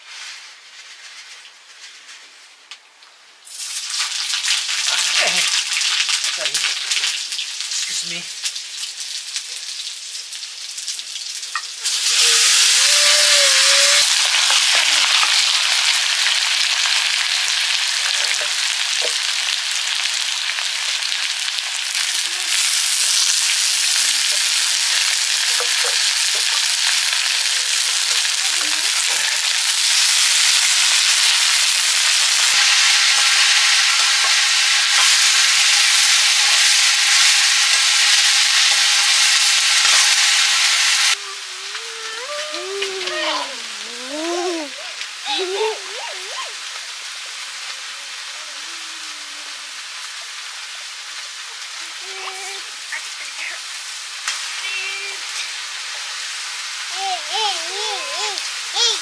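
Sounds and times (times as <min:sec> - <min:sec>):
greens sizzling in hot oil: 0:00.0 - 0:59.0.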